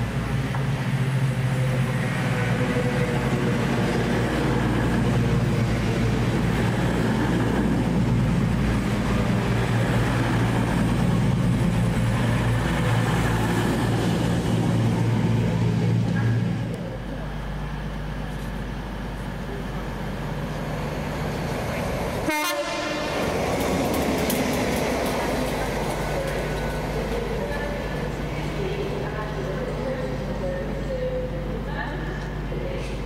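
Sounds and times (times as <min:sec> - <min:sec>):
train rumbling past: 0:00.0 - 0:33.0.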